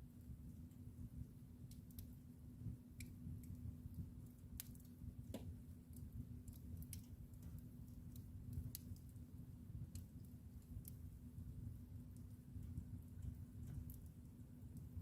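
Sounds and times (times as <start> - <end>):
faint steady hum: 0.0 - 15.0
wood fire crackling: 0.0 - 15.0.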